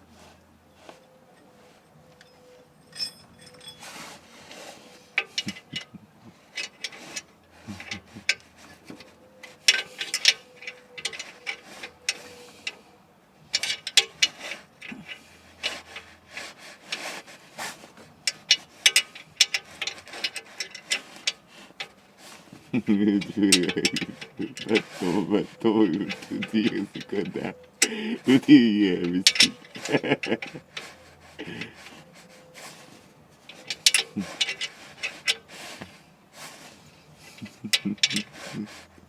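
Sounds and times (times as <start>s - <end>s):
metal tools clinking and scraping: 1.0s - 39.0s.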